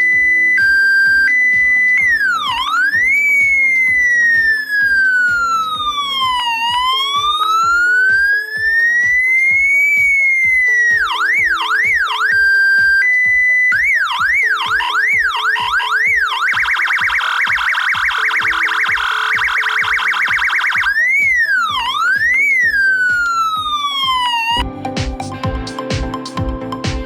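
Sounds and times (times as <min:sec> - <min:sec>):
electronic siren wailing and yelping: 0:00.0 - 0:24.6
background music with steady beat: 0:00.0 - 0:27.0.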